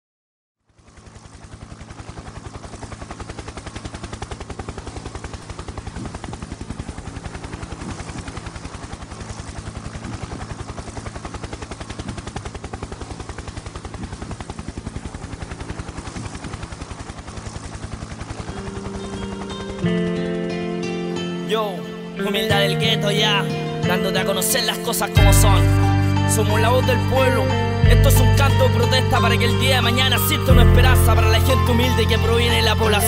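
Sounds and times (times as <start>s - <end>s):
helicopter rotor blades chopping: 0.7s - 33.0s
helicopter engine tone: 0.8s - 33.0s.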